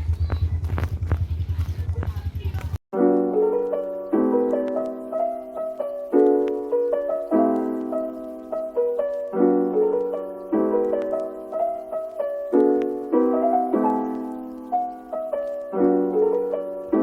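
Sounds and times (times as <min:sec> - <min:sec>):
soft jazz piano: 0:03.0 - 0:17.0.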